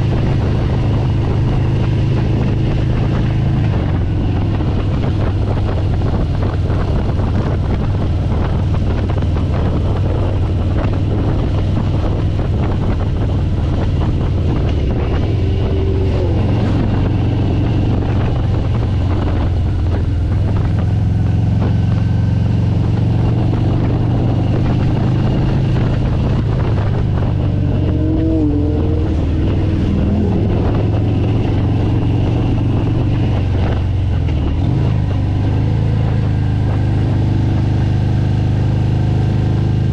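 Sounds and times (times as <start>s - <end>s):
vehicle engine running: 0.0s - 39.9s
wind noise on microphone: 0.0s - 39.9s.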